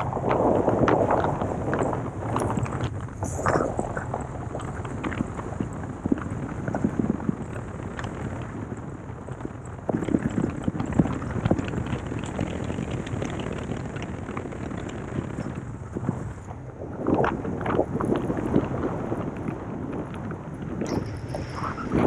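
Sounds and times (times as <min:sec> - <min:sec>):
tyre and road noise: 0:00.0 - 0:22.0
wind buffeting microphone: 0:00.0 - 0:22.0.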